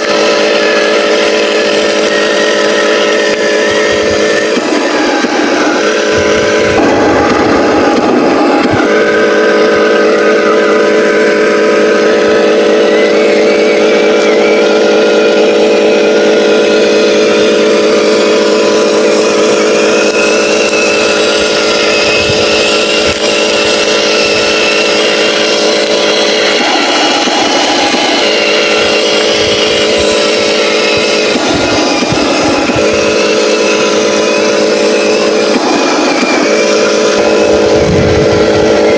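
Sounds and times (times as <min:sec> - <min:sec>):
simulated truck engine drone: 0:00.0 - 0:38.9.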